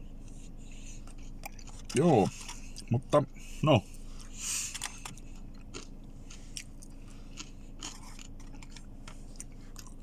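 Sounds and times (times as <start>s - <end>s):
person chewing food: 0.0s - 10.0s
steady low hum: 0.0s - 10.0s.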